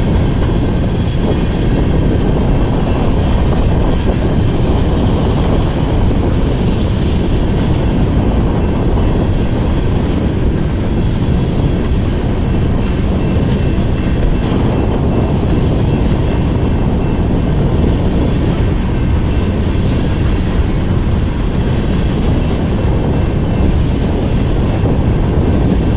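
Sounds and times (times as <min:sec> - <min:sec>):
freight train wheels rumbling on rail: 0:00.0 - 0:25.9.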